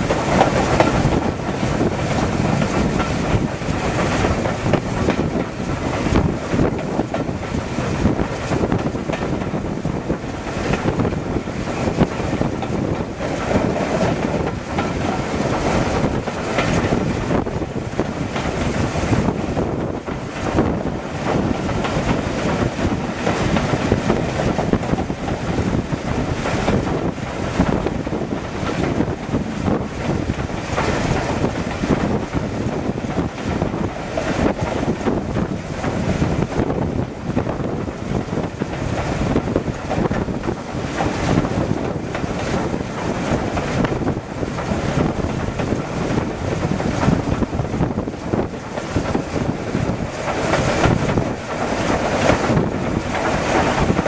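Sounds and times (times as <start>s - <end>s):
train wheels rumbling on track: 0.0s - 54.0s
wind buffeting microphone: 0.0s - 54.0s.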